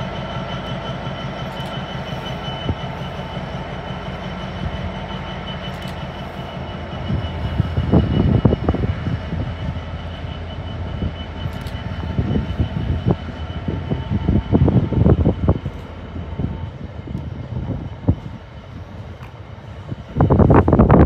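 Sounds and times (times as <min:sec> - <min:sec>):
diesel locomotive drone: 0:00.0 - 0:21.0
freight wagons rumbling: 0:00.0 - 0:21.0.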